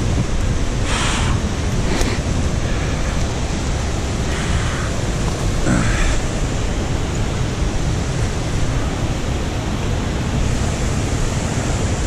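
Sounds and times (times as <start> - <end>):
stream flowing over rocks: 0.0 - 12.0
wind rumble on microphone: 0.0 - 12.0.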